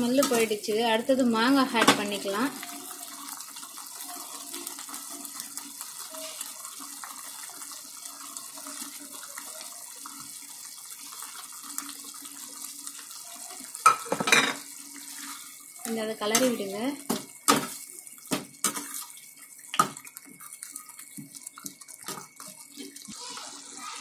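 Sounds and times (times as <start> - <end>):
gravy bubbling in a pan: 0.0 - 24.0.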